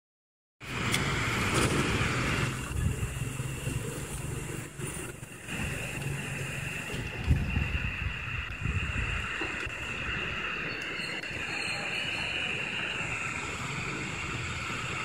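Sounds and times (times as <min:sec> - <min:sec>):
radio static hiss: 0:00.6 - 0:15.0.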